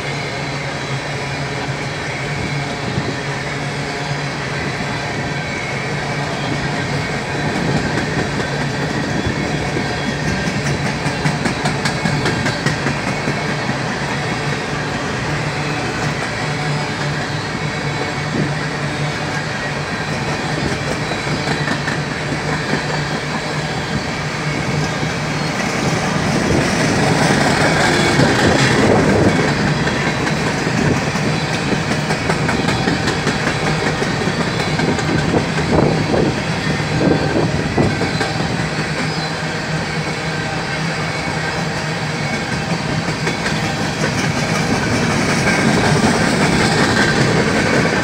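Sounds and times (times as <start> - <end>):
train wheels rumbling on rails: 0.0 - 48.0
clickety-clack over rail joints: 2.5 - 48.0.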